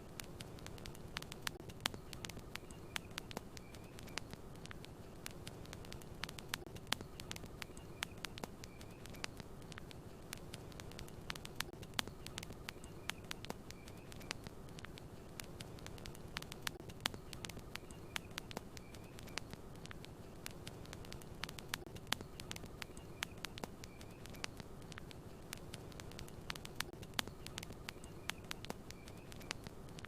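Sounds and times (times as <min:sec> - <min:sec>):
low rush of burning wood: 0:00.0 - 0:30.0
campfire pops and snaps: 0:00.1 - 0:30.0.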